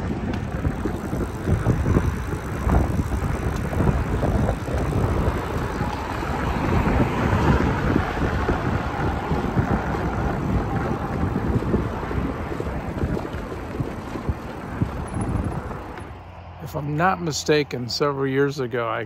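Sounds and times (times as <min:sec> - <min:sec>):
wind buffeting microphone: 0:00.0 - 0:18.7.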